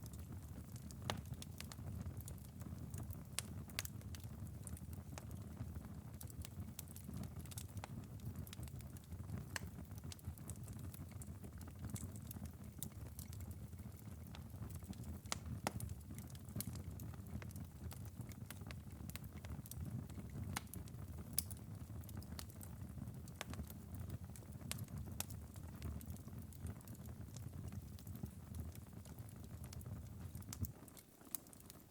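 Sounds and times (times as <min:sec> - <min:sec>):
fireplace embers crackling: 0:00.0 - 0:31.9.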